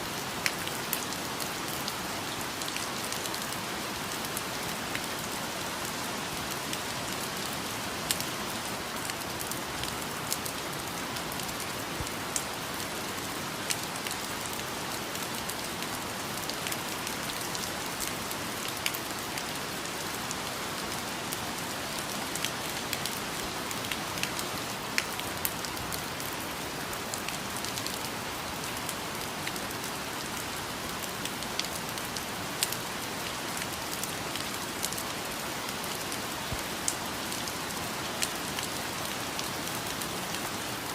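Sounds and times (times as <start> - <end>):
rain falling on foliage: 0.0 - 40.9.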